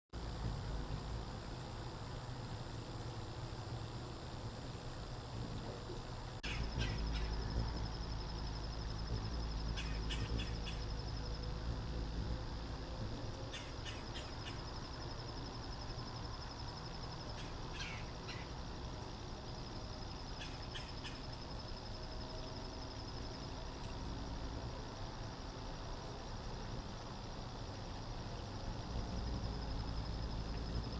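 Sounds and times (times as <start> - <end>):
pulsing insect trill: 0.2 - 30.9.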